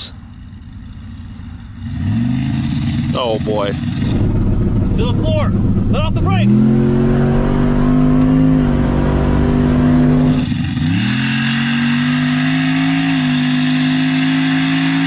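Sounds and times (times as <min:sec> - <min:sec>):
truck engine at full throttle: 0:00.0 - 0:15.0.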